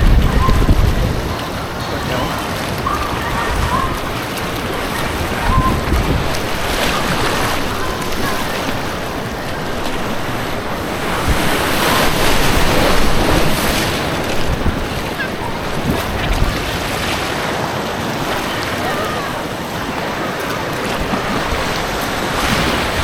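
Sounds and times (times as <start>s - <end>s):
rushing white water: 0.0s - 23.0s
wind buffeting microphone: 0.0s - 23.0s.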